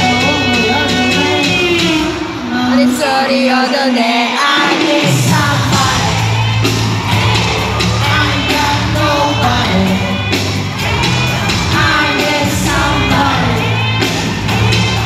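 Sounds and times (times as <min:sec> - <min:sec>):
pop song over loudspeakers: 0:00.0 - 0:15.0
crowd shouting along: 0:02.0 - 0:15.0.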